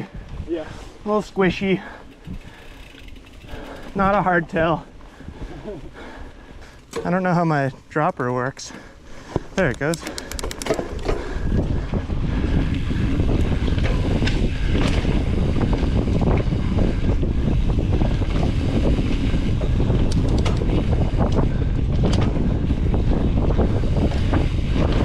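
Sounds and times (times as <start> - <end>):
wind buffeting microphone: 0.0 - 6.8, 9.1 - 25.0
bike clicks and rattles: 1.5 - 25.0.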